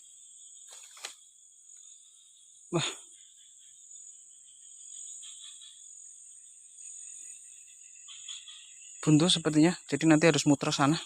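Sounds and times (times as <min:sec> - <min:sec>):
high-pitched insect chorus: 0:00.0 - 0:11.0
lower insect song: 0:00.0 - 0:11.0.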